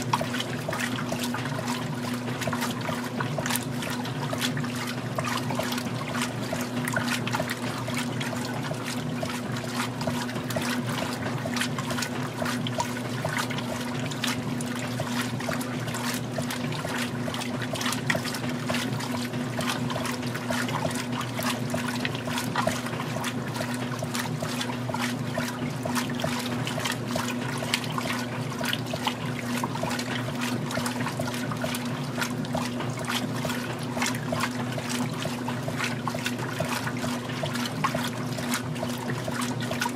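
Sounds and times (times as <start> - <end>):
motor hum: 0.0 - 39.9
water sloshing in washer: 0.0 - 39.9.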